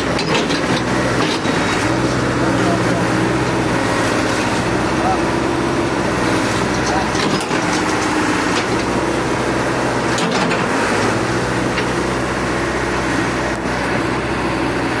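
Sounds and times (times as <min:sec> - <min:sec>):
excavator diesel engine idling: 0:00.0 - 0:15.0.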